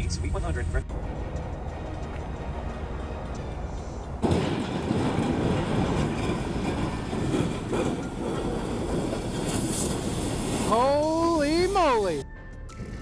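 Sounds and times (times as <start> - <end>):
train passing: 0.0 - 12.2.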